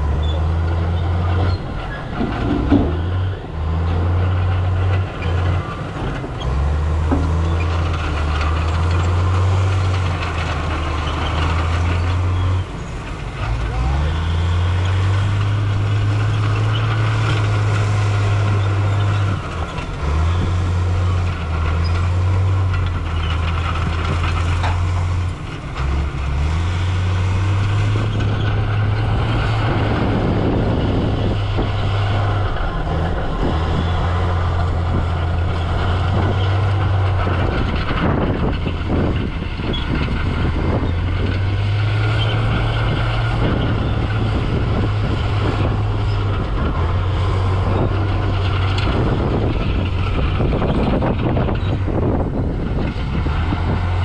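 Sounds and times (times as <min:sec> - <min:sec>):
heavy diesel machinery engine drone: 0:00.0 - 0:54.0
rough clatter: 0:00.0 - 0:54.0.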